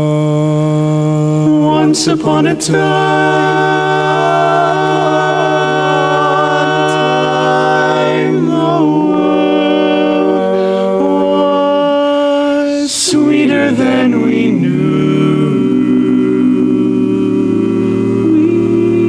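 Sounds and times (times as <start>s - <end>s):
male quartet singing a cappella: 0.0s - 19.0s.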